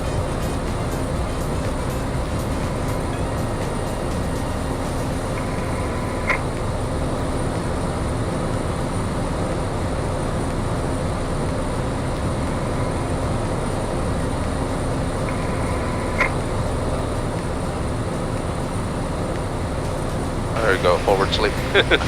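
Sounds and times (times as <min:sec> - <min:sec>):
light aircraft engine drone: 0:00.0 - 0:22.0.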